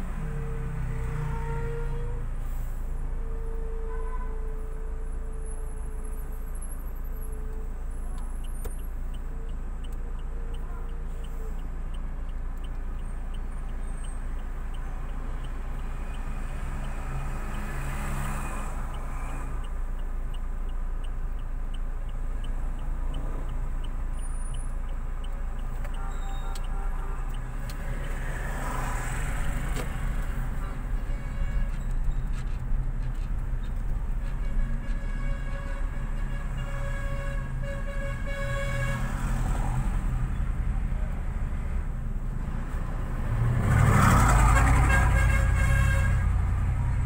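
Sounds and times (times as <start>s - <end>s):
engine and road rumble: 0.0s - 47.0s
outside traffic noise: 0.0s - 47.0s
turn signal ticking: 5.6s - 47.0s.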